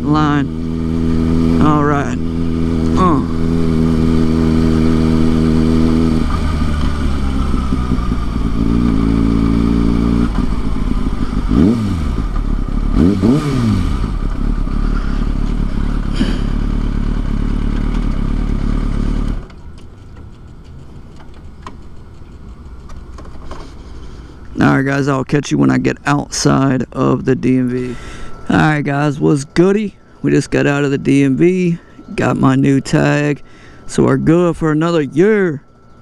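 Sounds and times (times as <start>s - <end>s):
motorcycle engine idling: 0.0s - 36.0s
motorcycle engine revving: 0.0s - 36.0s.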